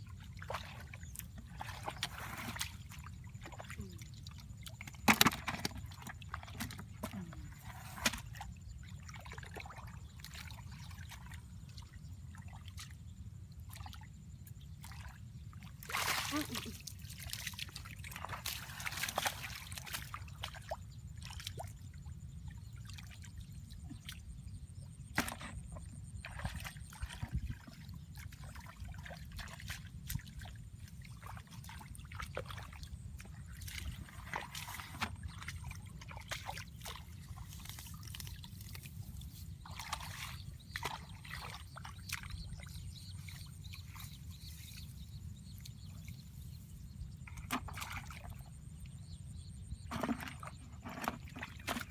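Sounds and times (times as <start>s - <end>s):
water sloshing and splashing: 0.0s - 51.9s.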